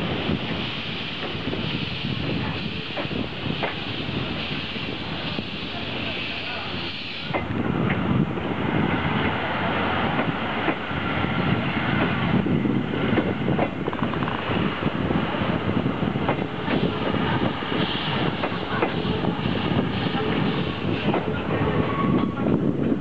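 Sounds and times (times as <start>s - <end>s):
steam train rumble: 0.0s - 23.0s.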